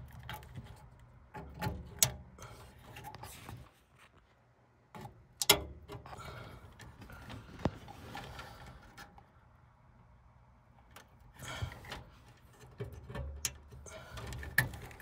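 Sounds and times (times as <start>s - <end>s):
wires rubbing and rustling: 0.0s - 9.4s, 10.7s - 15.0s.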